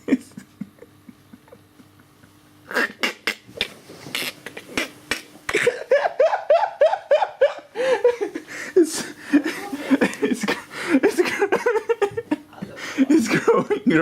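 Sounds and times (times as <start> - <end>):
person laughing: 0.0 - 3.5, 4.2 - 14.0.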